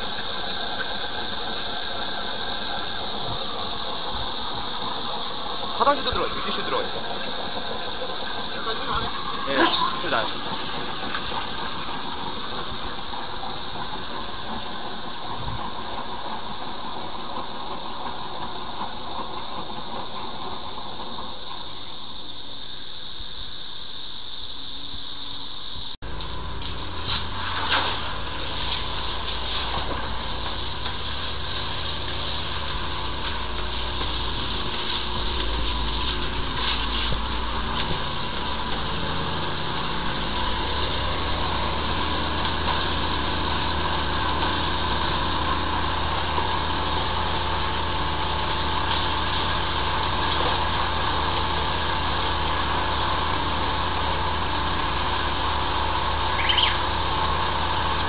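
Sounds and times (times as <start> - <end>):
engine and pump hum: 0.0 - 58.0
water jet hissing: 0.0 - 58.0.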